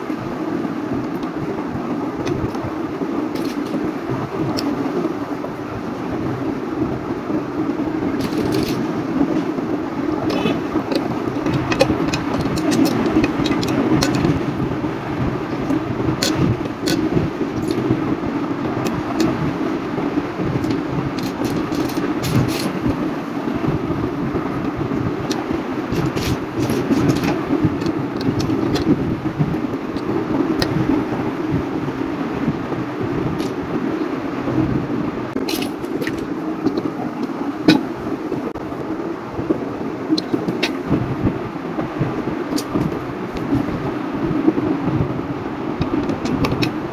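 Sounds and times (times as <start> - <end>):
steady background noise: 0.0 - 46.9.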